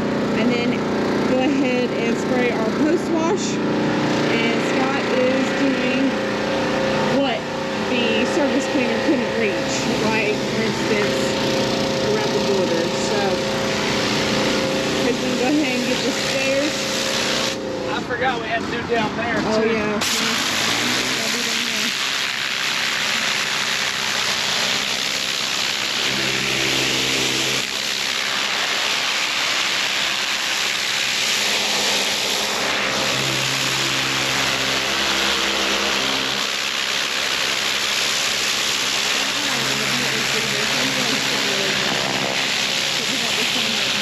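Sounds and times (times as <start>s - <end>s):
water spraying onto concrete: 0.0s - 17.7s, 19.8s - 44.0s
pressure washer engine drone: 0.0s - 44.0s.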